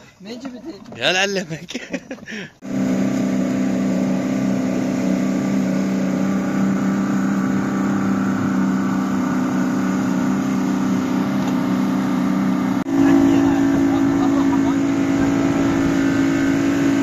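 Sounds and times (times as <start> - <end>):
boat engine droning: 2.6 - 17.0.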